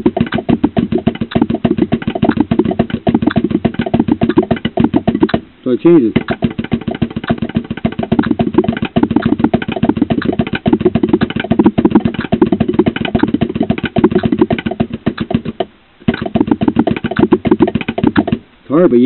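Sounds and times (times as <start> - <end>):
drum kit played with sticks: 0.0 - 5.4, 6.0 - 18.4.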